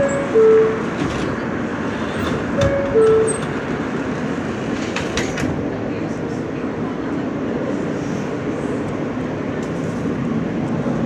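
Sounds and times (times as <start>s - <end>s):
subway car noise: 0.0s - 11.0s.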